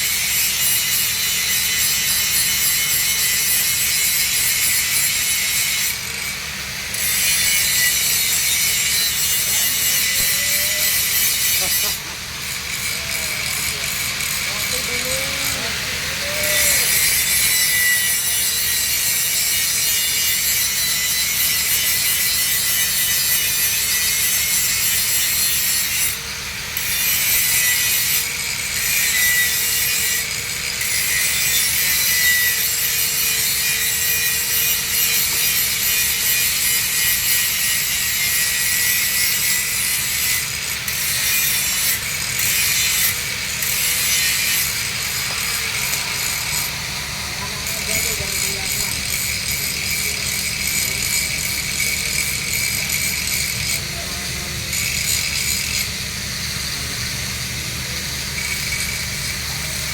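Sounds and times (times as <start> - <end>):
welding arc crackling: 0.0 - 59.9.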